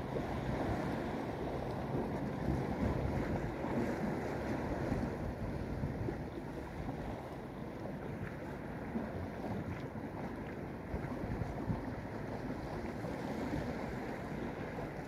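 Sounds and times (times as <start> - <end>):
wind buffeting microphone: 0.0 - 9.8, 10.4 - 15.0
propeller plane engine droning: 0.0 - 15.0.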